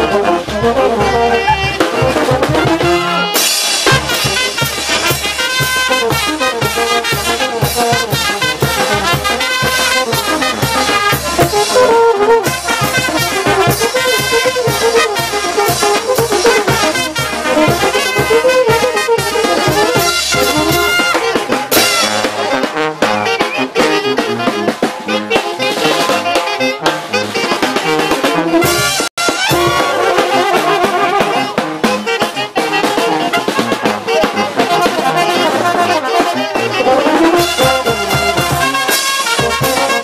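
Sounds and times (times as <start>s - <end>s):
brass band playing dance music: 0.0s - 40.0s.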